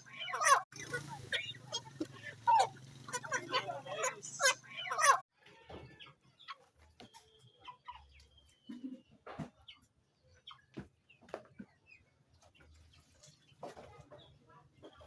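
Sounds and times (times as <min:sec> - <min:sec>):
chickens clucking faintly: 0:00.0 - 0:15.0.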